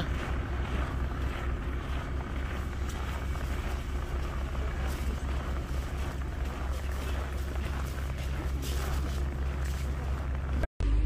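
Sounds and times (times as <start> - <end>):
vehicles idling: 0.0 - 11.0.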